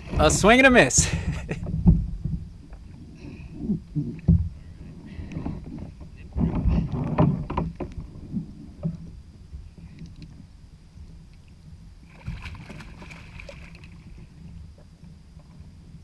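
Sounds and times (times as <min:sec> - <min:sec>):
wind and water against hull: 0:00.0 - 0:16.0.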